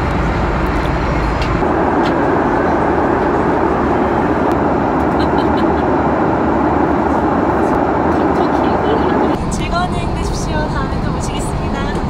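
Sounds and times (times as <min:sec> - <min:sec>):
jet cabin engine and airflow noise: 0:00.0 - 0:12.0.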